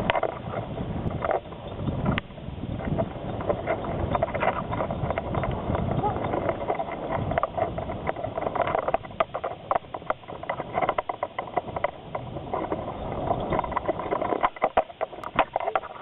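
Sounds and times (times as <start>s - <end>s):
dog sled rattling: 0.0s - 16.0s.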